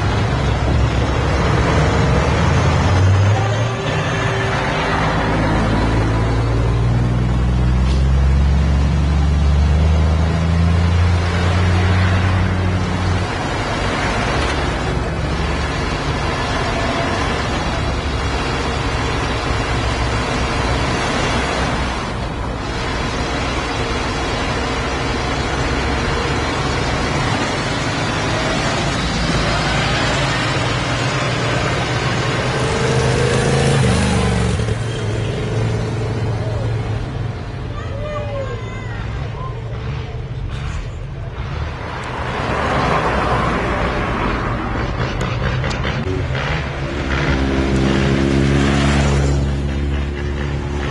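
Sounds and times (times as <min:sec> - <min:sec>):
broad noise: 0:00.0 - 0:50.9
tractor engine running: 0:04.5 - 0:37.6, 0:40.2 - 0:50.9.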